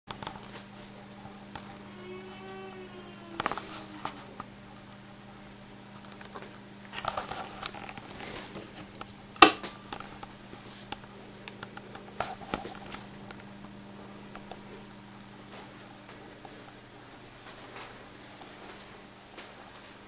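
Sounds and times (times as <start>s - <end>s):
steady low hum: 0.1s - 20.0s.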